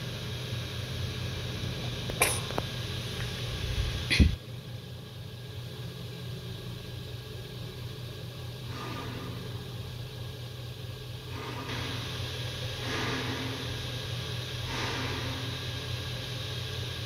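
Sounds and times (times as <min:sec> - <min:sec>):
steady low hum with hiss: 0:00.0 - 0:17.0.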